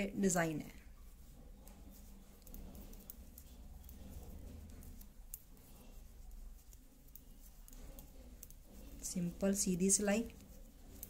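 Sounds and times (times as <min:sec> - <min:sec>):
knitting needles clicking: 0:00.0 - 0:11.0
low steady hum: 0:00.0 - 0:11.0.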